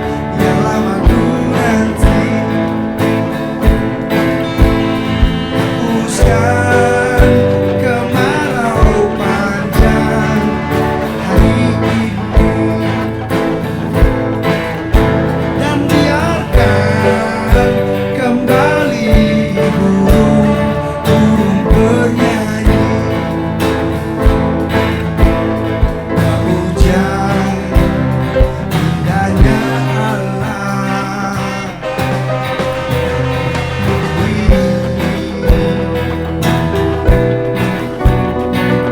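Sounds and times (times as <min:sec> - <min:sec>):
acoustic guitar: 0:00.0 - 0:38.9
live band playing: 0:00.0 - 0:38.9
person singing: 0:00.0 - 0:38.9.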